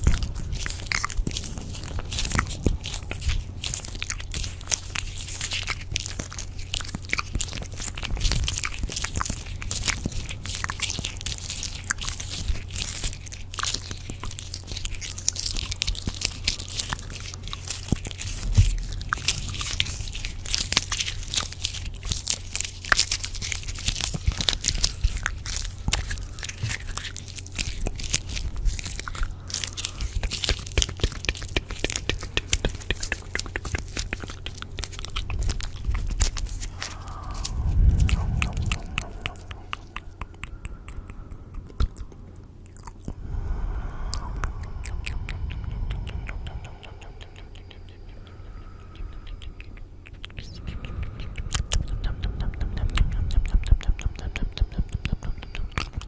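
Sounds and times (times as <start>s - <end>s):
crackling and crunching clicks: 0.0s - 43.2s, 44.1s - 56.0s
low steady hum: 0.0s - 56.0s.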